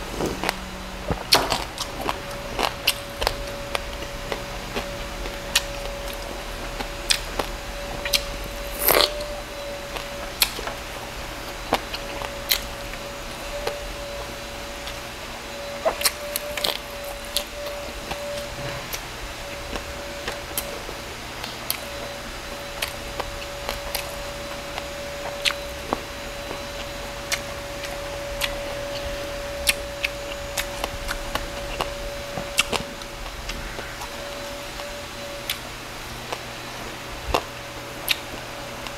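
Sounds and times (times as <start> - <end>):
crunchy chewing: 0.0 - 38.9
faint steady hum: 0.0 - 38.9.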